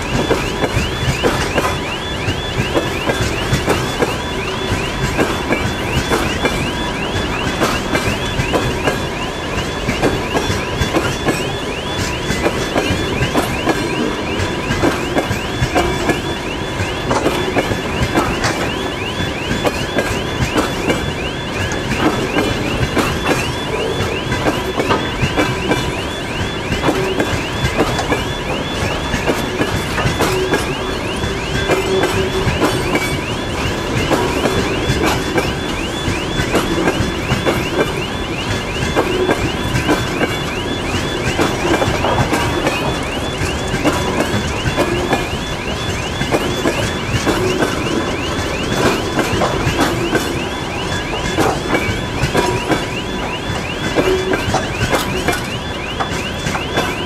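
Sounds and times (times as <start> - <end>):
electronic warning signal tone: 0.0 - 57.0.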